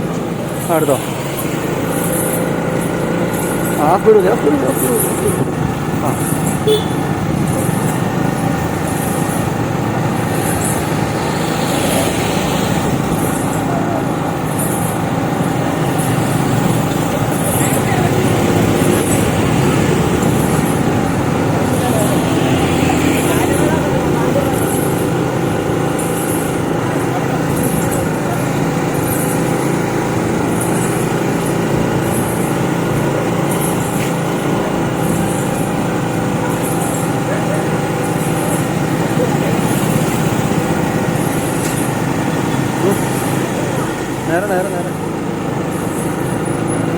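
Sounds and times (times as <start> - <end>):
heavy vehicle engine rumble: 0.0 - 46.9.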